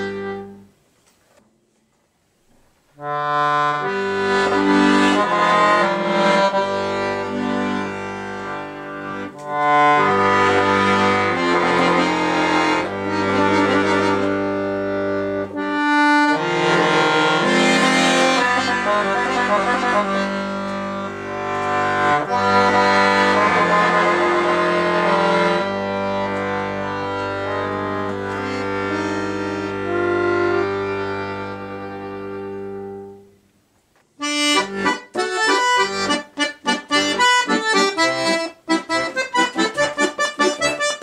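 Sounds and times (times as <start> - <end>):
accordion playing: 0.0 - 0.8, 3.0 - 33.5, 34.2 - 41.0.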